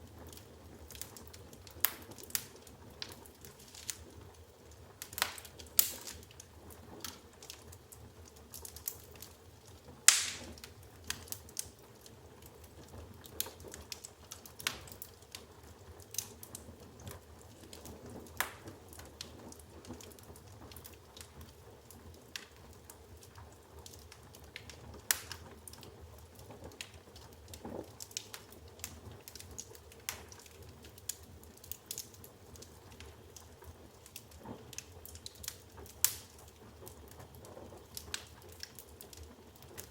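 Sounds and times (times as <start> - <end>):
wood fire crackling: 0.0 - 39.9
sharp pops and snaps: 0.2 - 4.1, 5.0 - 7.7, 10.0 - 12.6, 13.2 - 21.5, 23.8 - 25.8, 26.4 - 39.9.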